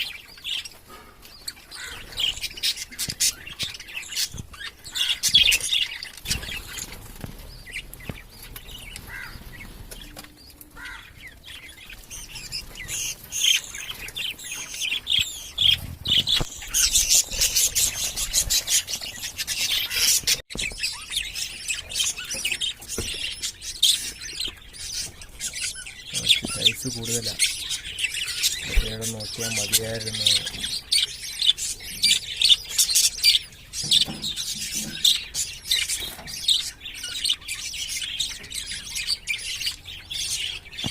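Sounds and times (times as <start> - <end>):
budgies chirping and chattering: 0.0 - 40.9.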